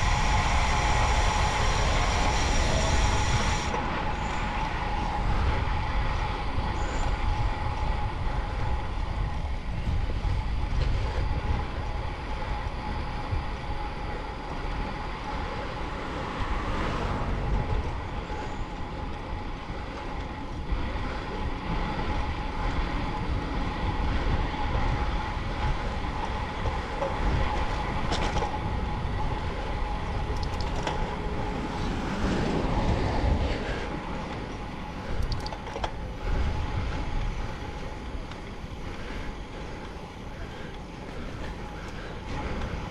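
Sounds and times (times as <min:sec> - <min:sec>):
faint steady whine: 0:00.0 - 0:42.9
tyres rolling on asphalt: 0:00.0 - 0:42.9
wind buffeting microphone: 0:00.0 - 0:42.9.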